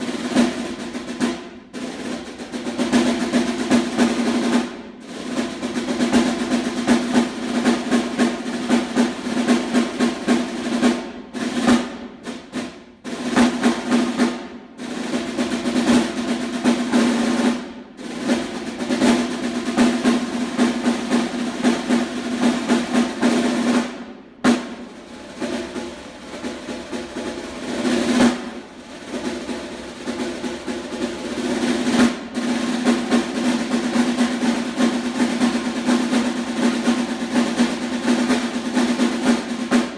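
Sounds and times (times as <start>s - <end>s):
snare drum rolls: 0.0s - 39.9s.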